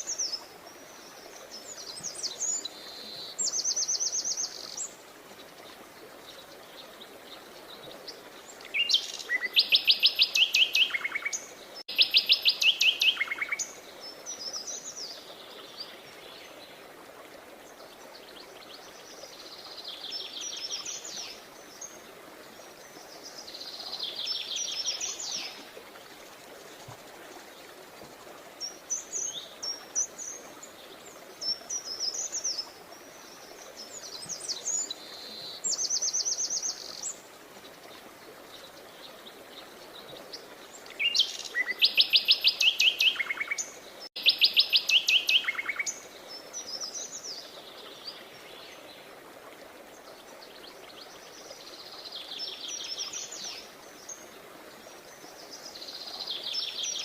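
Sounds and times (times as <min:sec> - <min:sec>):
faint background hiss: 0:00.0 - 0:57.0
songbirds trilling and chirping: 0:00.0 - 0:57.0.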